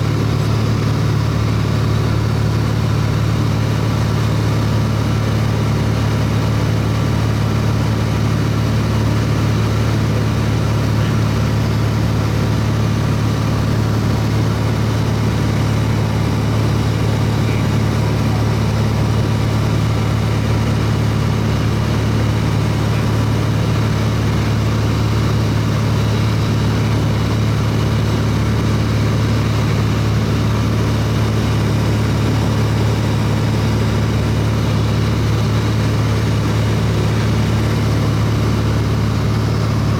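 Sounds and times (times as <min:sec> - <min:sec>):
airplane engine drone: 0:00.0 - 0:39.9.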